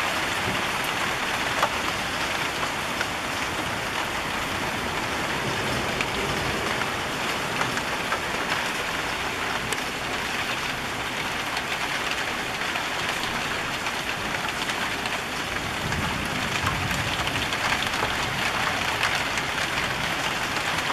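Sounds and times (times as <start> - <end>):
rain falling on rooftops: 0.0 - 20.9.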